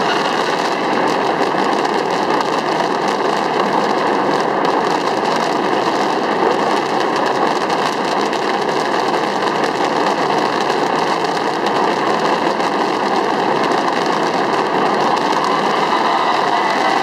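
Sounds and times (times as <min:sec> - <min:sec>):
fireworks crackling rumble: 0:00.0 - 0:17.0.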